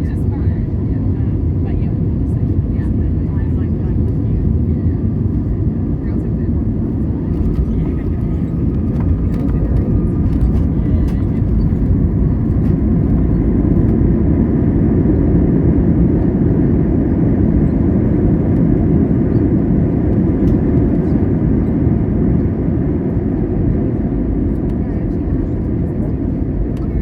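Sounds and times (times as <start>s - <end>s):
jet cabin engine rumble: 0.0s - 27.0s.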